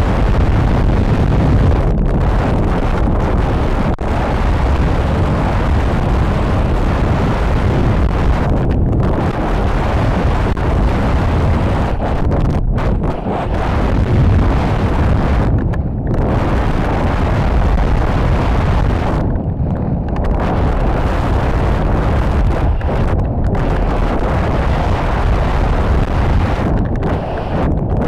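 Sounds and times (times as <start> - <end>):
heavy wind rumble: 0.0 - 28.0.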